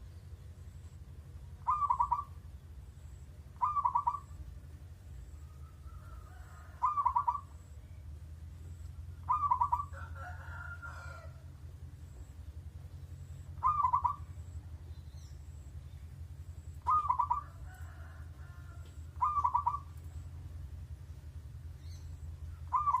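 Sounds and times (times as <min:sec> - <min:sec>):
bird calling: 0:00.0 - 0:11.4, 0:12.1 - 0:20.5, 0:21.7 - 0:23.0
steady low hum: 0:00.0 - 0:23.0.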